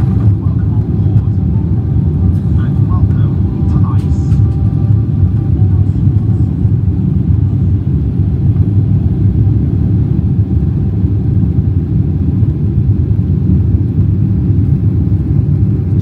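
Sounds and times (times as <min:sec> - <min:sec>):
aircraft engines at climb power: 0:00.0 - 0:16.0.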